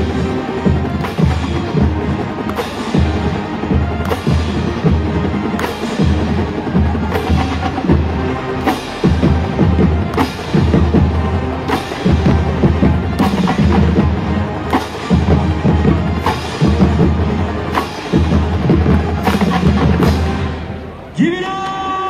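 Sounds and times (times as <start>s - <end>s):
music with steady drum beat: 0.0s - 20.8s.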